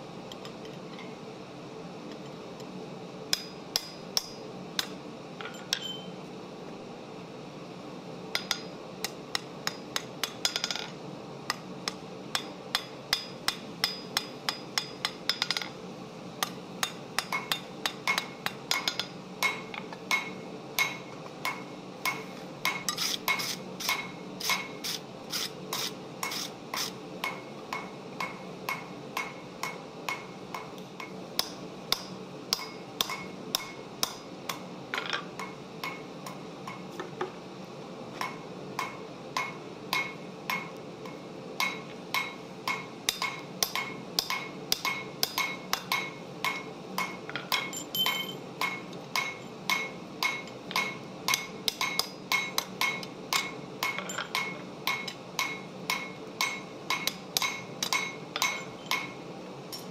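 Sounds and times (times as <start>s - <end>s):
steady hum: 0.0s - 59.9s
hammer striking steel on anvil: 3.3s - 6.1s, 8.4s - 10.9s, 11.5s - 15.7s, 16.4s - 24.8s, 25.7s - 36.9s, 38.2s - 59.9s.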